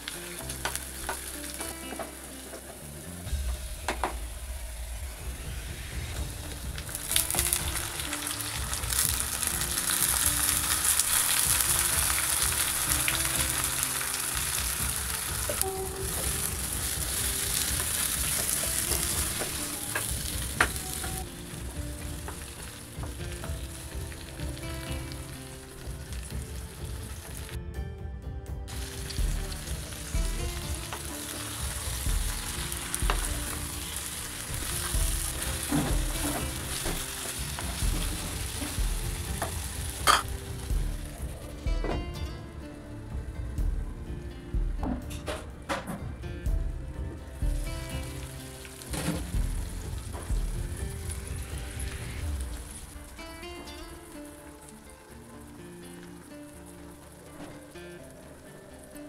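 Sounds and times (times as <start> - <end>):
eggplant sizzling in oil: 0.0 - 27.6, 28.7 - 41.7, 47.2 - 58.9.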